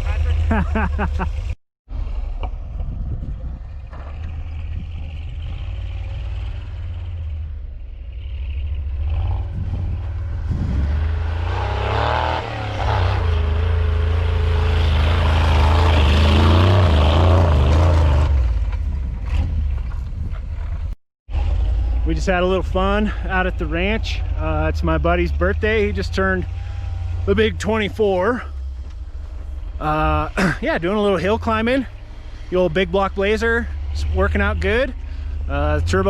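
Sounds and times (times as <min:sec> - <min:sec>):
truck engine revving: 0:03.9 - 0:19.9, 0:20.6 - 0:36.0.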